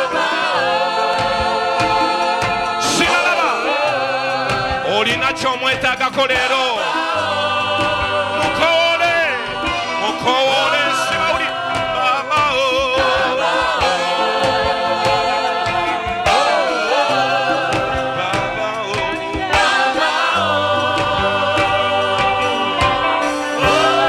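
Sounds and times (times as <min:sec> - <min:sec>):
choir singing gospel: 0:00.0 - 0:24.0
instrumental backing with beat: 0:00.0 - 0:24.0.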